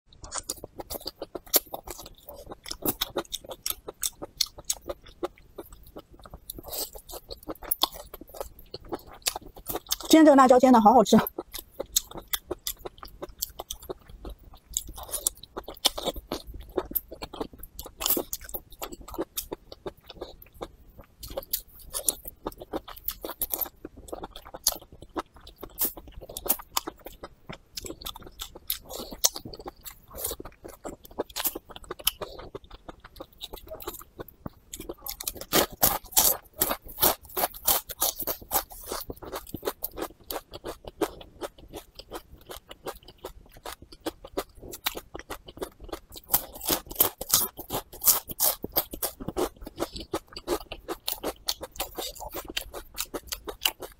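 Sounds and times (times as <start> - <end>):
crunchy chewing: 0.2 - 10.1, 11.2 - 53.9.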